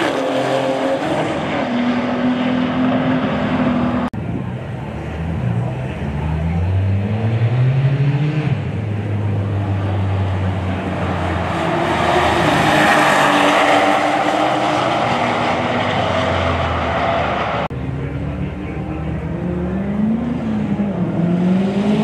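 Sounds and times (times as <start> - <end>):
cars accelerating at full throttle: 0.0 - 22.0.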